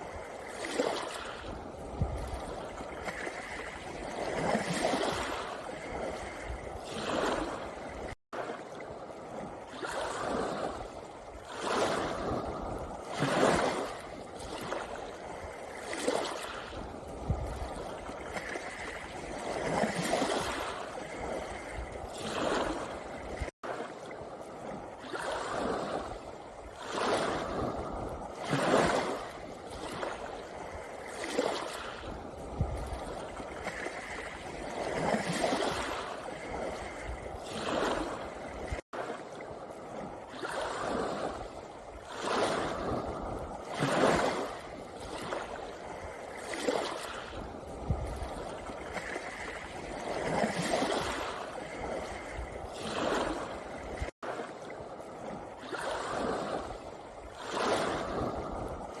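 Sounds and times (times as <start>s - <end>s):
sea waves on a pebble beach: 0.0s - 59.0s.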